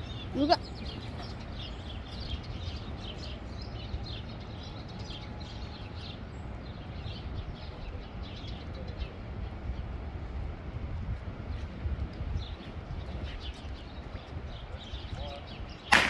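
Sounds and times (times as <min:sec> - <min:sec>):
small birds chirping: 0:00.0 - 0:10.3, 0:11.4 - 0:16.0
steady low rumble: 0:00.0 - 0:16.0.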